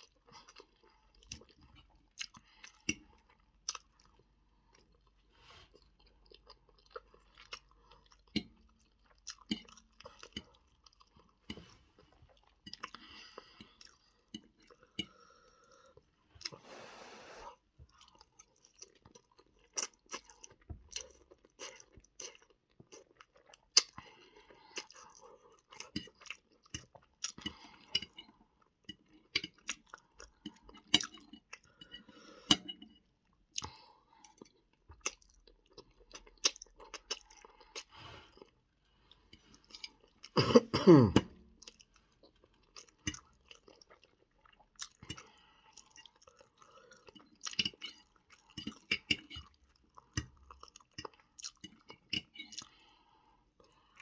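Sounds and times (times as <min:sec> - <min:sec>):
chewing spaghetti: 0:00.0 - 0:16.6, 0:17.8 - 0:40.4, 0:41.1 - 0:54.0.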